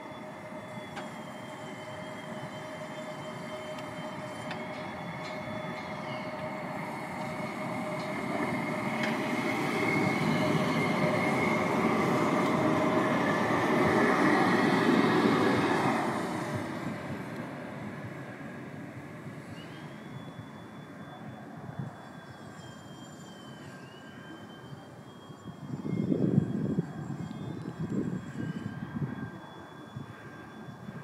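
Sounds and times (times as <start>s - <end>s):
steady high whine: 0.0s - 31.0s
tram wheels rumbling on rails: 0.0s - 31.0s.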